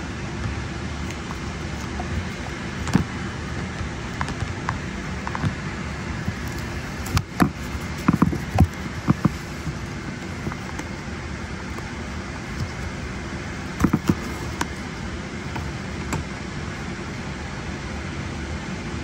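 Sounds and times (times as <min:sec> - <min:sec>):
airliner cabin hum: 0:00.0 - 0:19.0.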